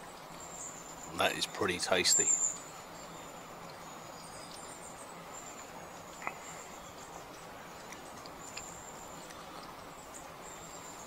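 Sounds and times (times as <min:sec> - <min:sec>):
faint outdoor background noise: 0:00.0 - 0:11.0
insects trilling: 0:00.0 - 0:11.0.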